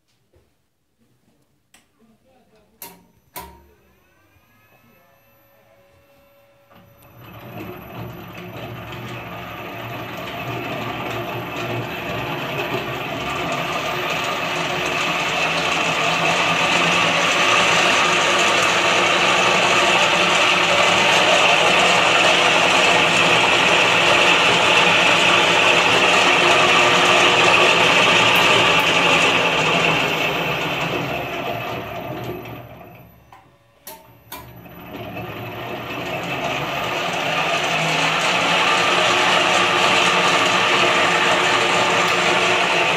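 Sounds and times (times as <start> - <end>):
ball mill running: 4.6 - 42.9.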